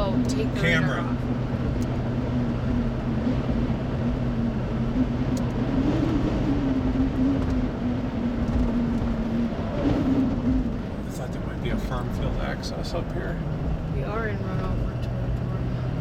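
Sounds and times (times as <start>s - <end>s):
droning hum: 0.0s - 16.0s
tyre and engine rumble: 0.0s - 16.0s.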